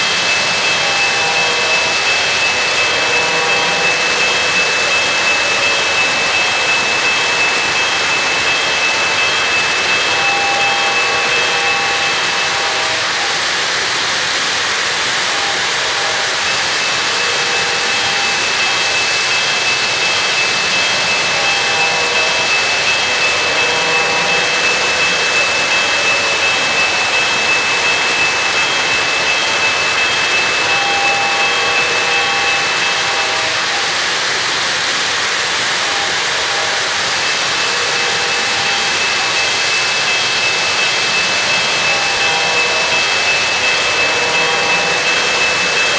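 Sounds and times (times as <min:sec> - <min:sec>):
model train wheels rumbling: 0:00.0 - 0:45.9
thin high whine: 0:00.0 - 0:45.9.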